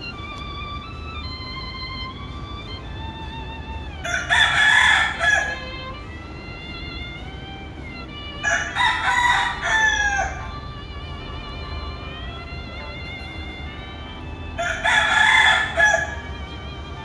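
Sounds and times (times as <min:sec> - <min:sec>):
roosters crowing: 0:00.0 - 0:07.0, 0:07.7 - 0:17.0.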